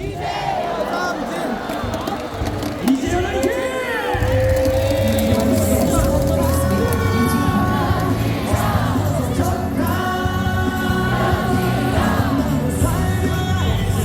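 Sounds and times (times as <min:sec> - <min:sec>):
crowd singing along: 0:00.0 - 0:14.0
music over loudspeakers: 0:01.8 - 0:14.0.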